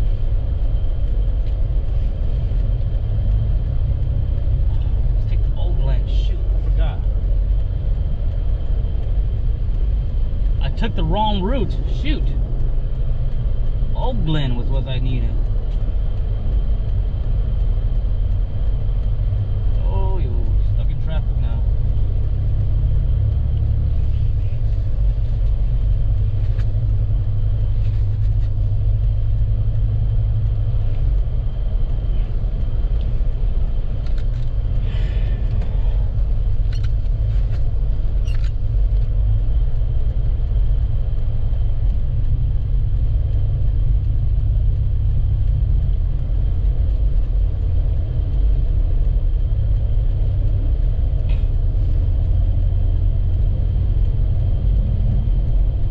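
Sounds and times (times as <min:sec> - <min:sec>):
faint clicks: 0:00.0 - 0:55.9
vehicle engine rumble: 0:00.0 - 0:55.9.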